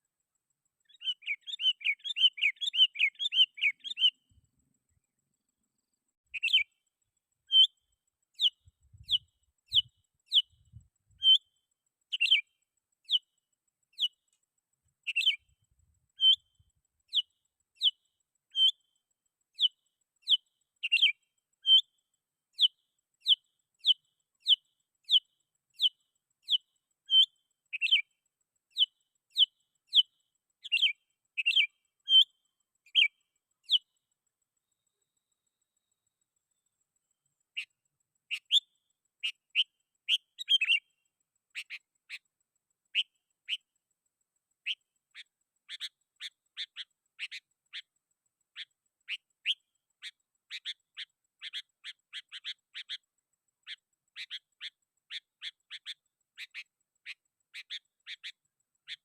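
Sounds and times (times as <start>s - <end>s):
bird chattering and chirping: 0.8s - 4.3s, 5.8s - 6.8s, 7.4s - 14.2s, 15.0s - 18.9s, 19.5s - 36.1s, 37.4s - 43.8s, 44.6s - 59.0s.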